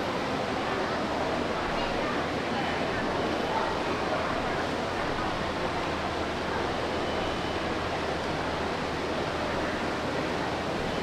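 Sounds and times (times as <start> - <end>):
indistinct crowd chatter: 0.0 - 11.0.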